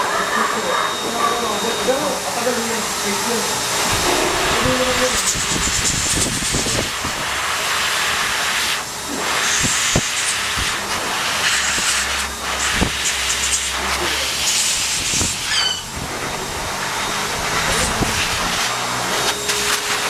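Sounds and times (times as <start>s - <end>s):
rushing air hiss: 2.2s - 18.8s.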